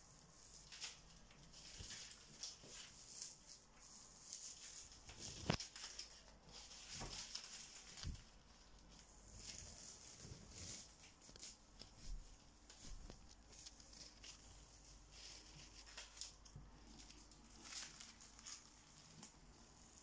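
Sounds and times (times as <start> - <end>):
masking tape peeling off wall: 0.2 - 20.0.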